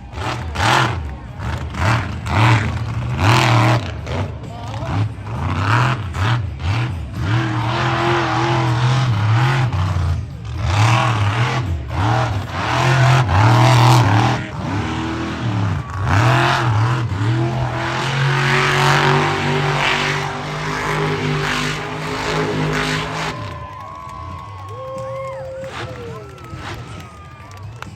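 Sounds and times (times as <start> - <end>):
engine revving: 0.0 - 27.9.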